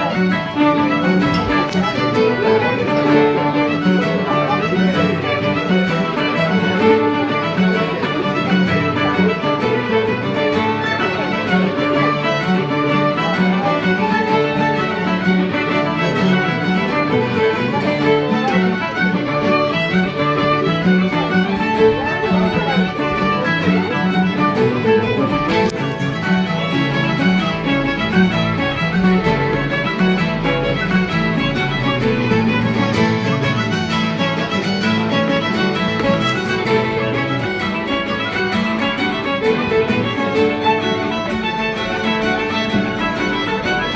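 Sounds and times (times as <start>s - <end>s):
fiddle playing a jig: 0.0s - 43.9s
guitar accompaniment: 0.0s - 43.9s.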